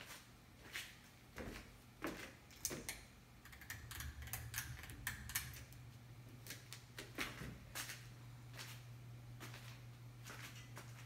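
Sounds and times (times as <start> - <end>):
fan motor humming: 1.3 - 11.0.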